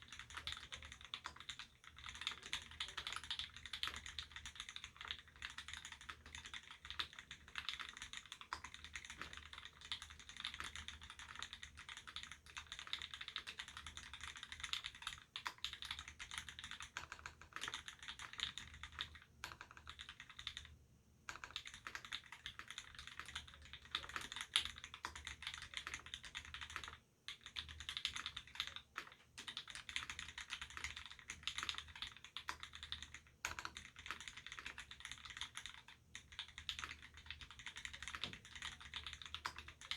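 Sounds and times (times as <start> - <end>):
mechanical keyboard typing: 0.0 - 20.7, 21.3 - 39.9.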